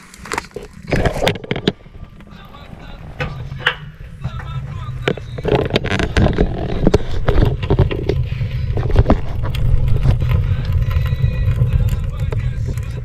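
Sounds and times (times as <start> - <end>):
knocks scrapes and clatter: 0.0 - 13.0.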